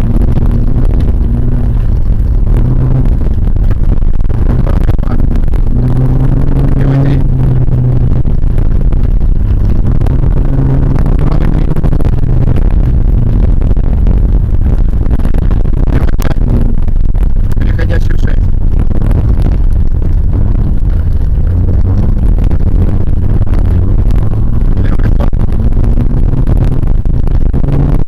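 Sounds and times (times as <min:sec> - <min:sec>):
car engine running hard: 0:00.0 - 0:28.0
tyres rumbling on dirt track: 0:00.0 - 0:28.0.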